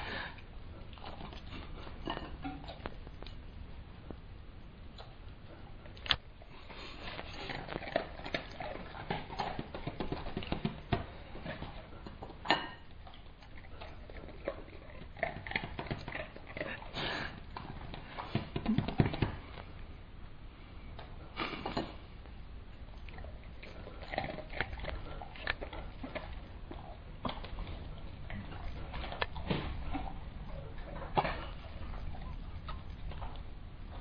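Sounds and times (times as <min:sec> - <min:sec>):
dog chewing: 0:00.0 - 0:04.2, 0:04.9 - 0:19.9, 0:20.9 - 0:34.0.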